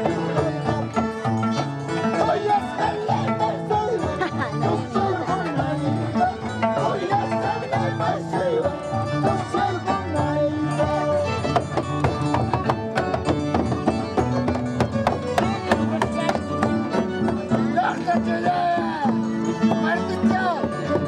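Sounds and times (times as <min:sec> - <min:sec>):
harp playing lively tune: 0:00.0 - 0:21.0.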